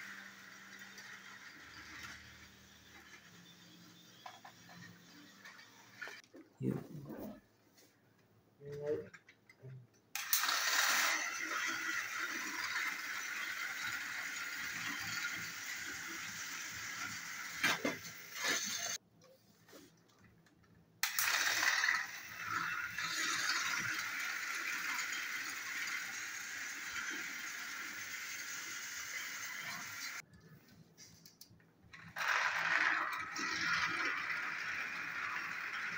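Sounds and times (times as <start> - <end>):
toy train motors whirring: 0.0 - 6.2, 10.1 - 19.0, 21.0 - 30.2, 31.1 - 35.9.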